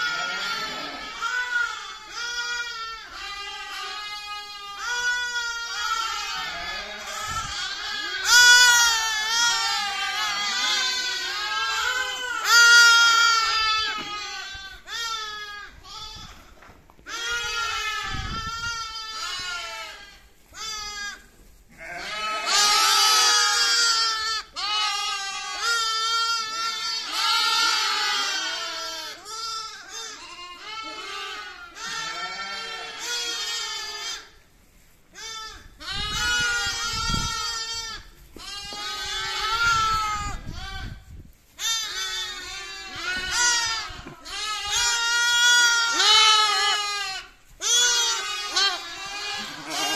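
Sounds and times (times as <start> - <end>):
lambs bleating: 0.0 - 34.4, 35.1 - 49.9.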